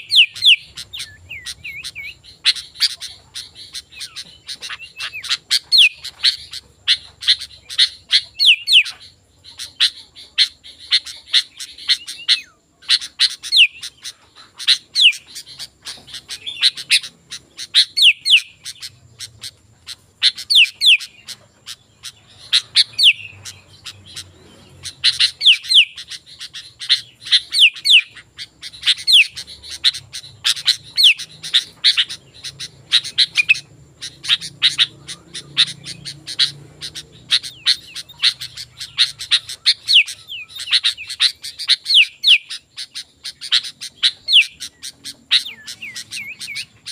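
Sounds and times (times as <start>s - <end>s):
bulbul singing: 0.0s - 46.9s.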